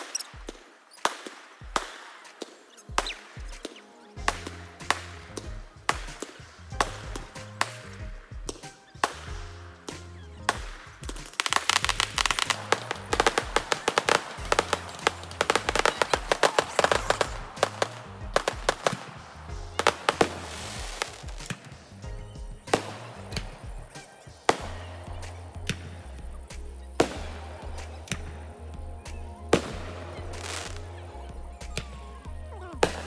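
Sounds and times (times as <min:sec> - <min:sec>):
loud fireworks bangs: 0:00.0 - 0:28.4, 0:29.5 - 0:31.0, 0:32.8 - 0:33.0
fireworks crackling and popping: 0:00.0 - 0:33.0
music with bass beat: 0:02.9 - 0:33.0.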